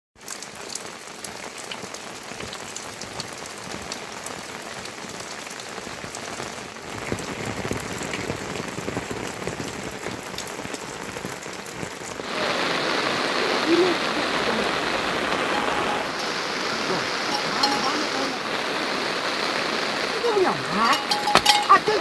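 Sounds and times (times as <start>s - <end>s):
raindrops ticking close by: 0.2s - 22.0s
steady rain falling: 0.2s - 22.0s.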